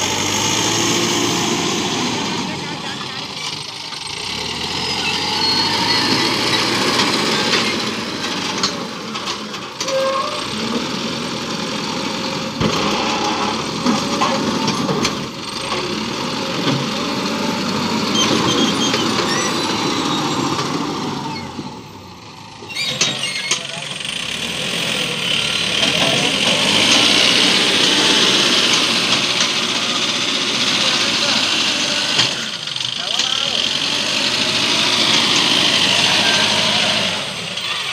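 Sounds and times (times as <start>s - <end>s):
diesel engine running hard: 0.0s - 37.9s.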